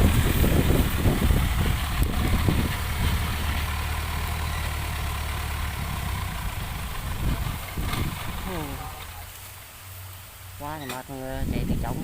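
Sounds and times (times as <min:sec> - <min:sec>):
engine idling: 0:00.0 - 0:11.1.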